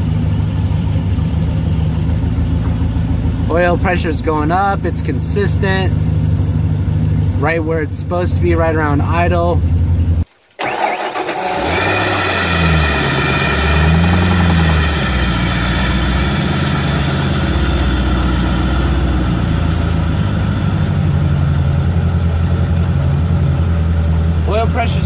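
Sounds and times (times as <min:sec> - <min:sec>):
engine knocking: 0:00.0 - 0:10.8, 0:11.7 - 0:25.0
boat engine idling: 0:00.0 - 0:10.9, 0:11.6 - 0:25.0.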